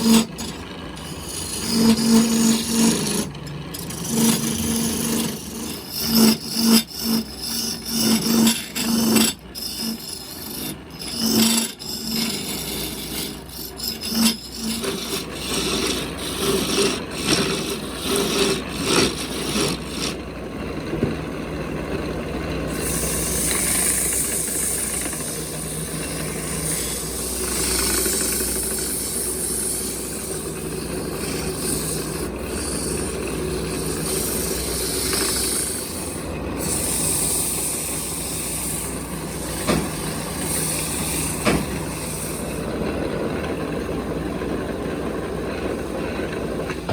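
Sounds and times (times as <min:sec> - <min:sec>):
wood rasping by hand: 0:00.0 - 0:20.2, 0:22.6 - 0:42.7.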